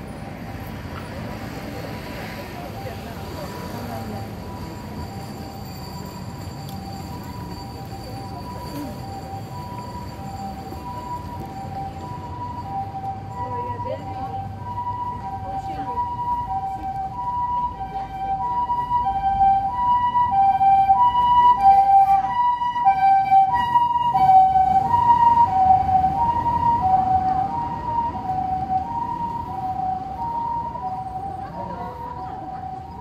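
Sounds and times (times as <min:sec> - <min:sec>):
low street noise: 0:00.0 - 0:33.0
two-tone ambulance siren: 0:00.0 - 0:33.0.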